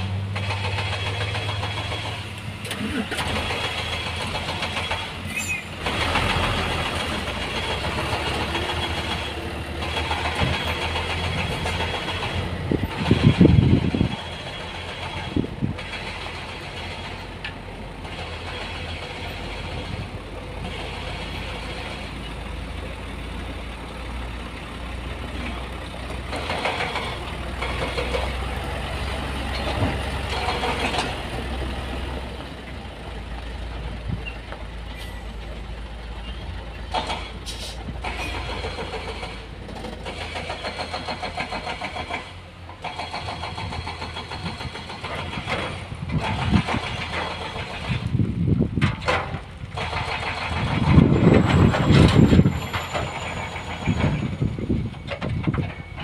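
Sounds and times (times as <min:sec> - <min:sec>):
truck engine humming: 0:00.0 - 0:56.0.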